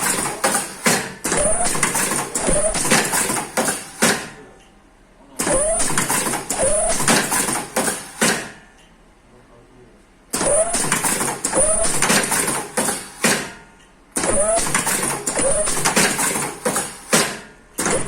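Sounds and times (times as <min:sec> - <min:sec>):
machine clicking and clattering: 0:00.0 - 0:04.4, 0:05.4 - 0:08.7, 0:10.3 - 0:18.0.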